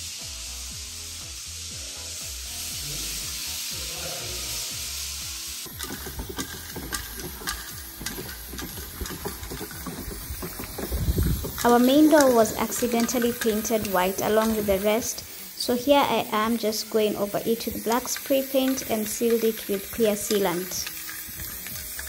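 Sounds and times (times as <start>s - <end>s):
background music: 0.0s - 22.0s
steady hiss: 0.0s - 22.0s.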